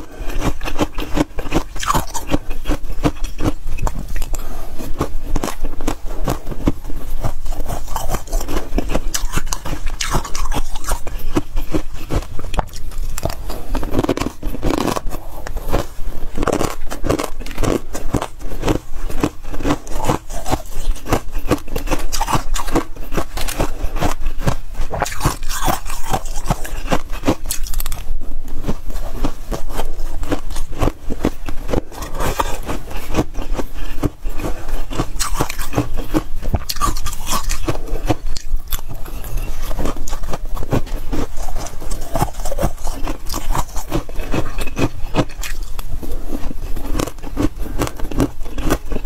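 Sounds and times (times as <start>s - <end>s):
frost crunching being chewed: 0.0s - 49.0s.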